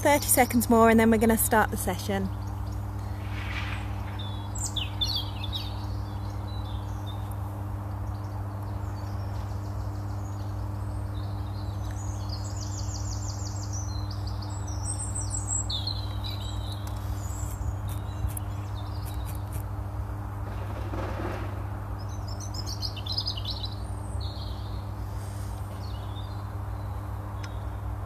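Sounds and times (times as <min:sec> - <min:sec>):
small birds chirping: 0:00.0 - 0:19.8, 0:21.9 - 0:28.0
low hum: 0:00.0 - 0:28.0.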